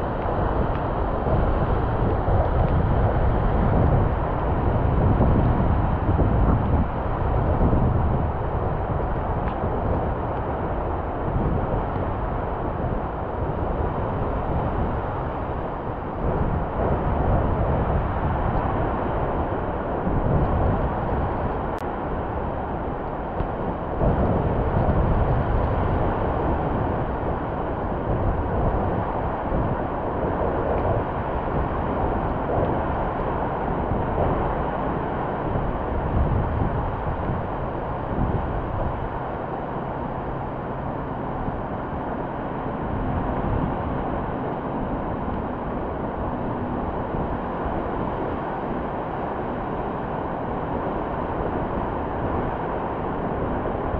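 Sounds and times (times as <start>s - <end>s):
wind on microphone: 0.0s - 53.9s.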